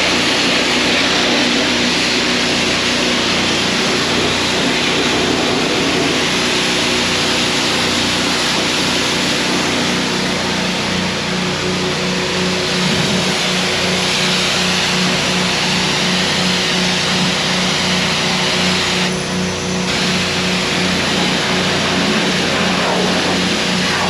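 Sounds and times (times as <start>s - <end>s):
low pulsing pump hum: 0.0s - 24.0s
pressure washer spraying water: 0.0s - 24.0s.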